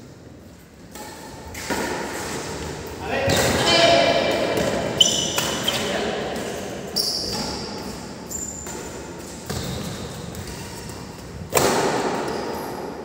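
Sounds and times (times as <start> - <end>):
racket hitting shuttlecock: 0.9 - 2.7, 3.3 - 6.6, 7.2 - 12.9.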